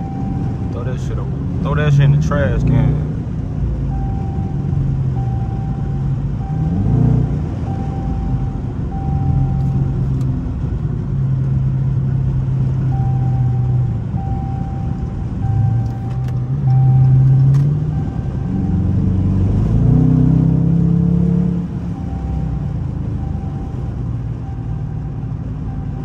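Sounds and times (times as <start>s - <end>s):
car exhaust drone from inside: 0.0s - 26.0s.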